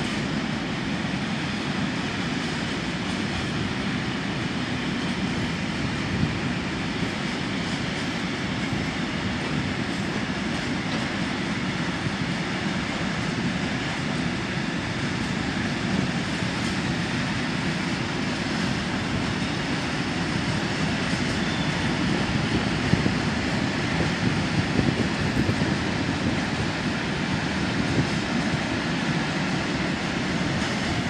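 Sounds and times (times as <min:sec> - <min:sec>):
steady engine drone: 0:00.0 - 0:31.0.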